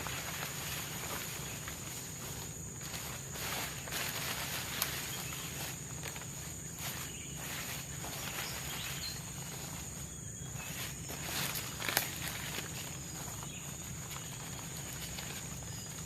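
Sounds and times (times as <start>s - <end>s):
footsteps: 0.0s - 16.0s
high-pitched insect drone: 0.0s - 16.0s
rustling: 0.0s - 16.0s.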